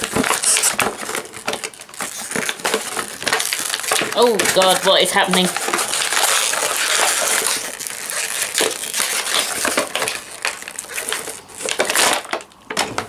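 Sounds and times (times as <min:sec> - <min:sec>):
plastic packaging crunching: 0:00.0 - 0:13.0.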